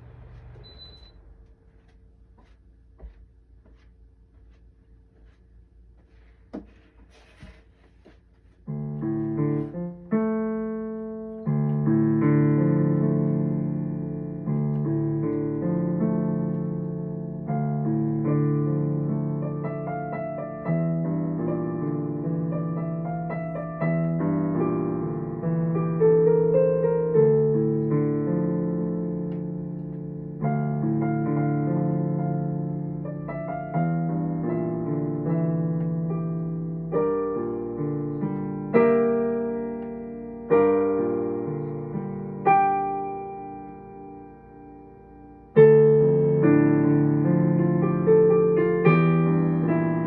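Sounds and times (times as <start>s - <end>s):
slow solo piano piece: 8.6s - 50.0s.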